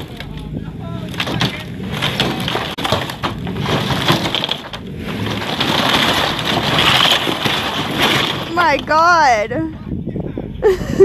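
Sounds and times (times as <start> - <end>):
timber splintering and crunching: 0.0 - 9.4
wooden structure cracking and creaking: 0.0 - 9.7.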